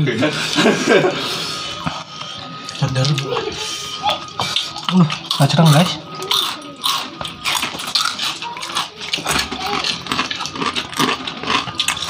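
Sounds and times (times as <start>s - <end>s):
murmured voices: 0.0s - 12.0s
people crunching snacks: 0.0s - 12.0s.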